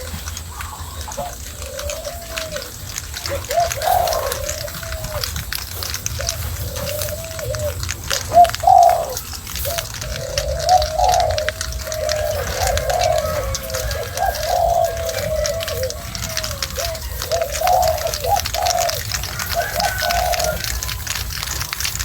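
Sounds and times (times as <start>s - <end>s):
dove cooing: 0.0s - 22.0s
hedgehog crunching dry food: 0.0s - 22.0s.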